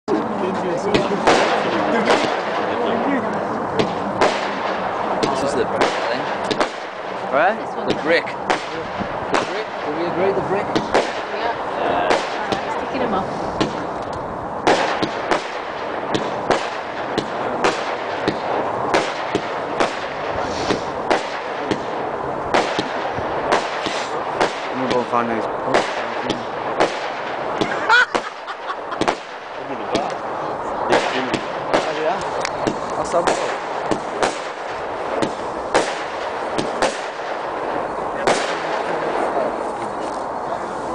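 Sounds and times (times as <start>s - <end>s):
crackling hiss: 0.1s - 40.9s
fireworks reports: 0.1s - 40.9s.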